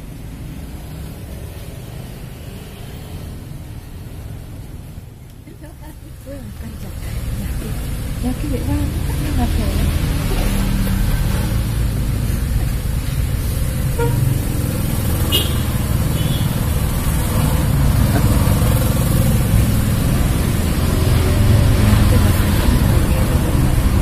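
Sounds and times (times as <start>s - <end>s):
vehicle engines rumbling: 0.0s - 24.0s.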